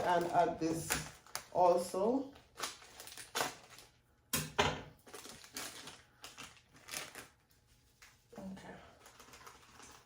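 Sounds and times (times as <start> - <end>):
packaging rustling: 0.0 - 4.0, 5.0 - 8.1, 8.9 - 10.0.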